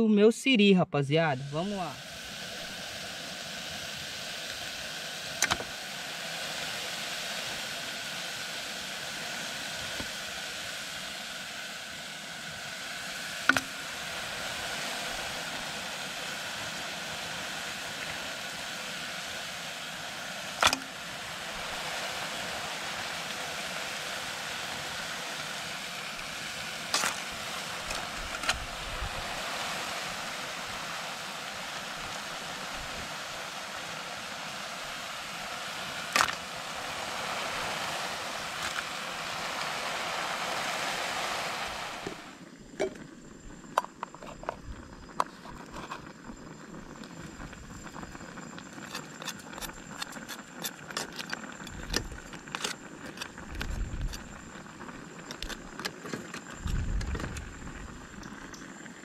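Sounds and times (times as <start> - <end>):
camp stove hissing: 1.2 - 59.0.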